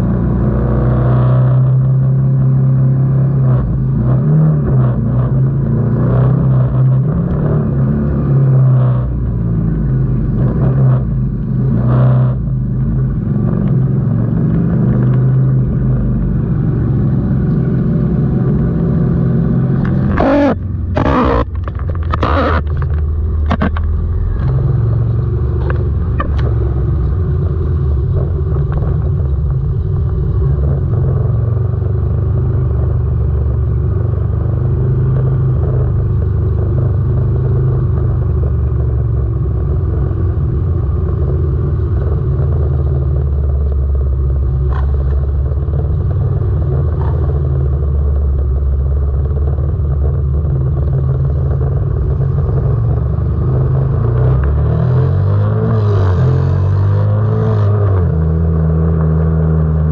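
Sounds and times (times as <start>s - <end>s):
motorcycle engine running: 4.9s - 56.9s.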